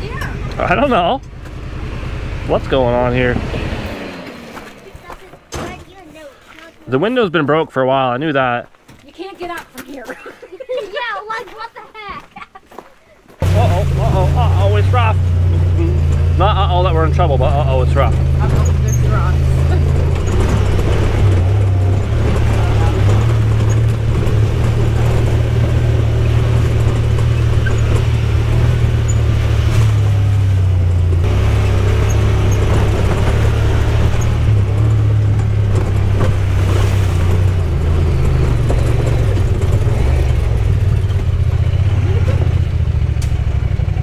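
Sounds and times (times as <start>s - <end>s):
utility vehicle engine droning: 0.0s - 8.0s, 13.4s - 44.0s.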